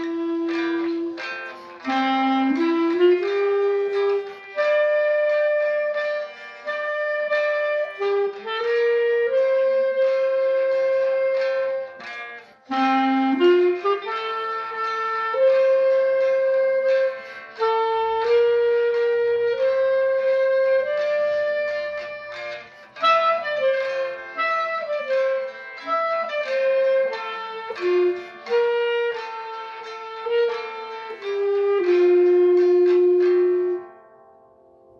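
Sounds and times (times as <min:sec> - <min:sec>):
clarinet playing slow hymn melody: 0:00.0 - 0:34.1
classical guitar backing: 0:00.0 - 0:34.9.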